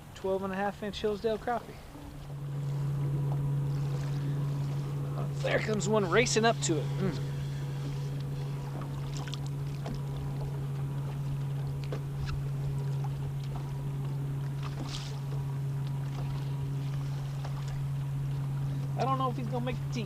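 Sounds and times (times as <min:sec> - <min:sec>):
boat engine low hum: 0:00.0 - 0:20.0.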